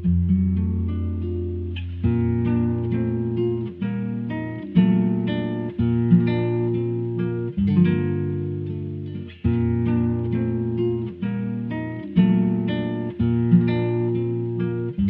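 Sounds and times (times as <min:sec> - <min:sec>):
ringing guitar chords: 0:00.0 - 0:15.0.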